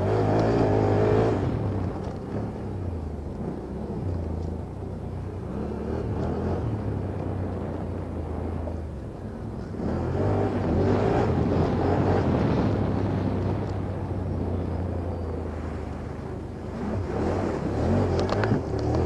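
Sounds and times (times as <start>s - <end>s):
quad bike engine revving: 0.0s - 8.8s, 9.6s - 19.0s.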